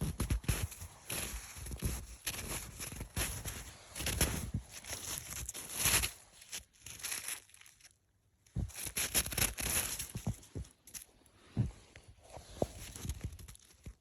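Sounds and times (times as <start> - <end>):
footsteps crunching through snow: 0.0 - 7.9, 8.6 - 14.0.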